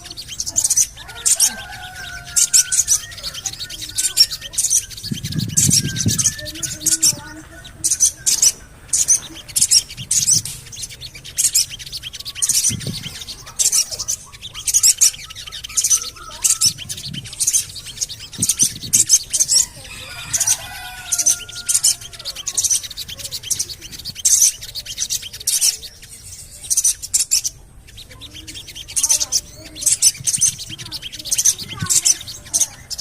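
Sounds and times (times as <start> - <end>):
bird chirping: 0.0 - 33.0
faint whistled bird notes: 0.0 - 33.0.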